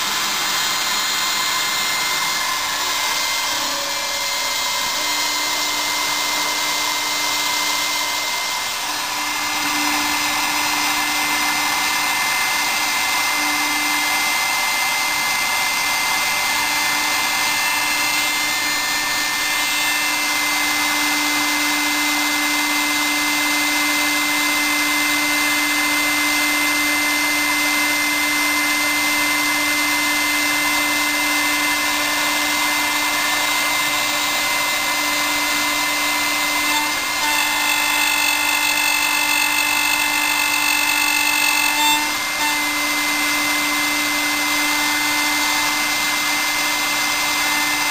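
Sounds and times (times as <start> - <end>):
milling machine whirring: 0.0 - 47.9.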